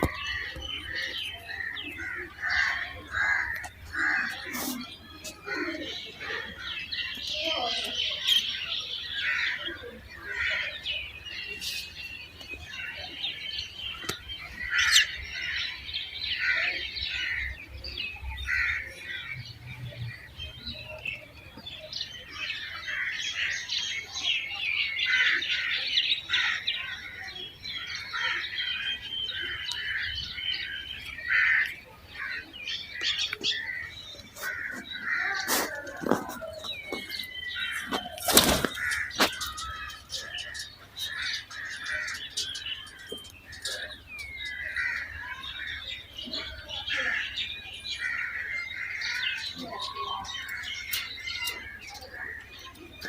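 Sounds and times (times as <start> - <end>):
birds chirping and squawking: 0.0 - 53.0.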